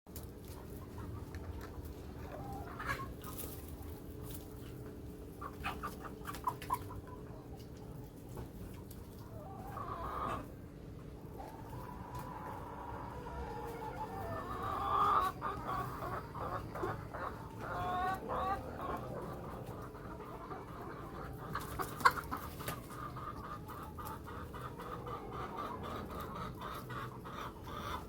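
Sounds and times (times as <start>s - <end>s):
chickens clucking: 0.1s - 28.0s.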